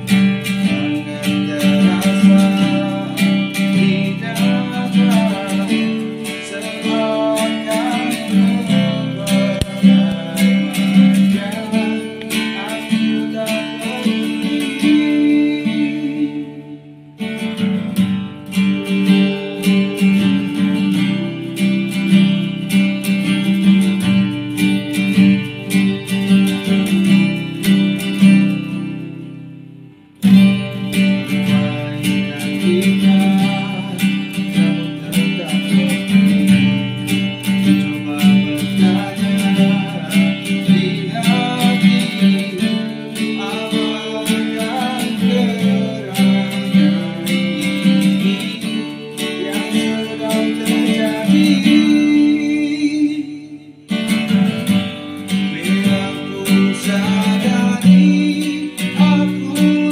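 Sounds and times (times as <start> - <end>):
man singing: 0.0 - 29.5, 30.2 - 59.9
acoustic guitar strumming: 0.0 - 59.9.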